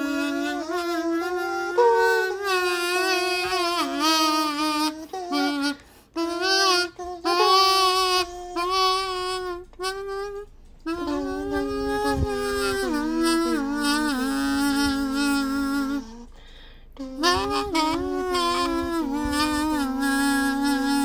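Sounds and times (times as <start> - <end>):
kazoo playing a slow melody: 0.0 - 21.0.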